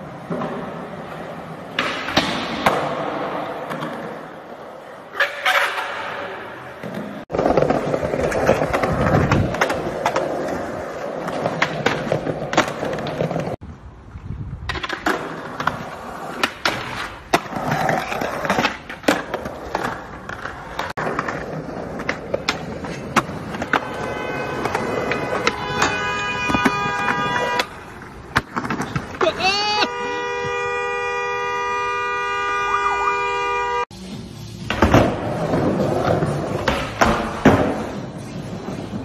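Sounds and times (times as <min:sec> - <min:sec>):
skateboard wheels rolling on concrete: 0:00.0 - 0:39.0.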